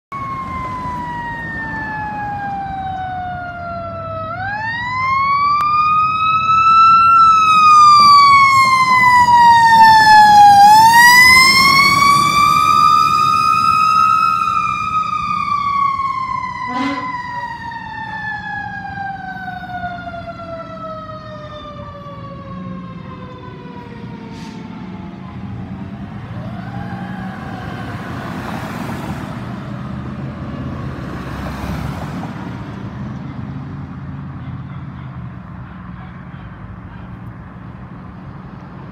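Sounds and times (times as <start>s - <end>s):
fire engine siren winding down: 0.1s - 32.6s
cars passing: 0.1s - 38.9s
low traffic rumble: 0.1s - 38.9s.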